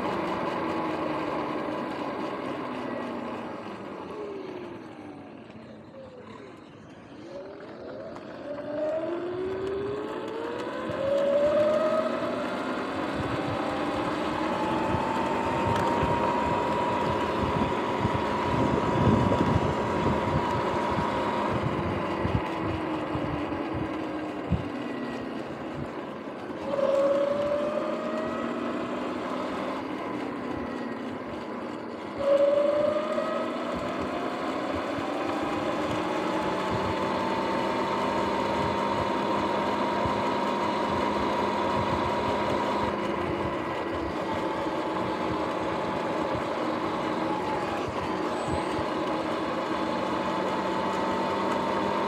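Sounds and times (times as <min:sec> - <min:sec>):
electric dirt bike motor whining: 0:00.0 - 0:52.0
road and wind noise: 0:00.0 - 0:52.0.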